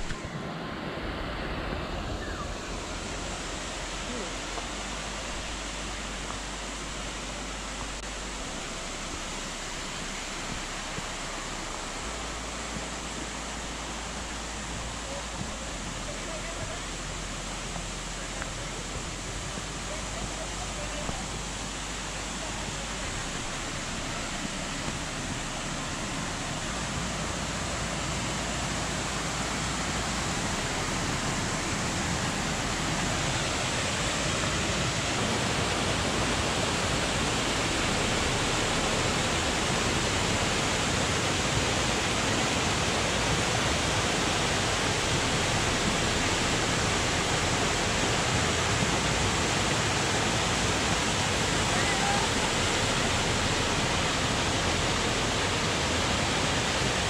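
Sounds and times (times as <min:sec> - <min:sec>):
stream rushing over cascades: 0:00.0 - 0:57.0.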